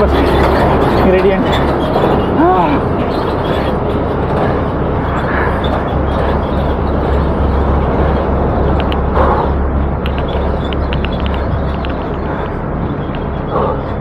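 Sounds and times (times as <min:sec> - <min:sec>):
bicycle road noise: 0:00.0 - 0:14.0
wind rumble on microphone: 0:00.0 - 0:14.0.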